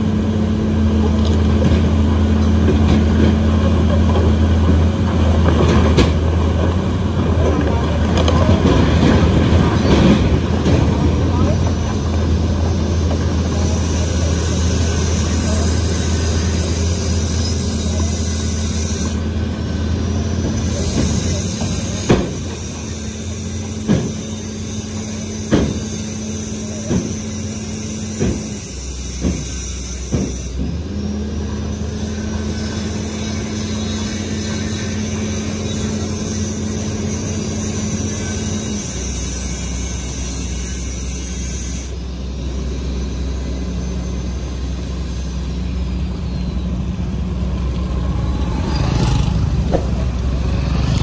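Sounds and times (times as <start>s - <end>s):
diesel engines running: 0.0s - 51.0s.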